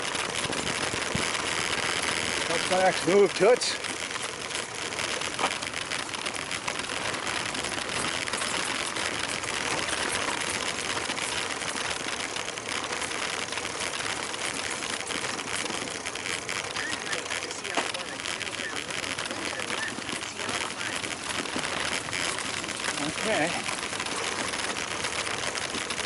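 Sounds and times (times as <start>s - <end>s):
bicycle tyres crunching on gravel: 0.0s - 26.0s
bike rattling and ticking: 0.0s - 26.0s.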